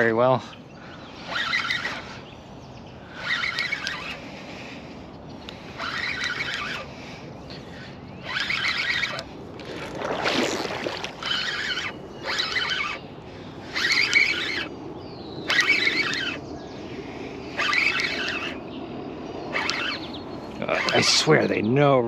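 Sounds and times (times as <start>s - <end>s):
fishing reel drag buzzing: 0.0s - 18.7s, 19.3s - 21.4s.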